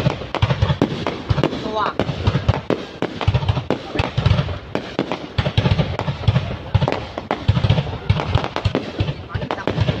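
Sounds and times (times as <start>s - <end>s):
fireworks cracks and booms: 0.0s - 10.0s.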